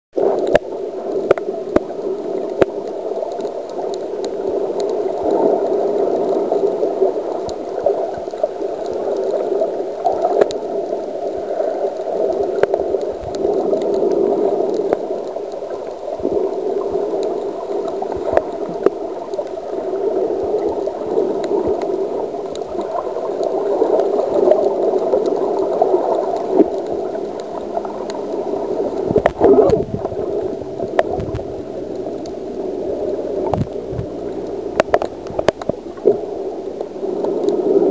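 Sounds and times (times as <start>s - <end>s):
sharp clicks underwater: 0.2s - 5.6s, 6.2s - 10.7s, 12.3s - 19.9s, 20.5s - 28.3s, 29.0s - 32.5s, 33.3s - 37.9s
muffled underwater rushing: 0.2s - 37.9s.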